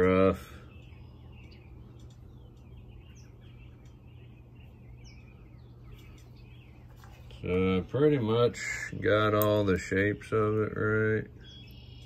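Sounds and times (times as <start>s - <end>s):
faint birds chirping: 0.0s - 12.0s
steady low hum: 0.0s - 12.0s.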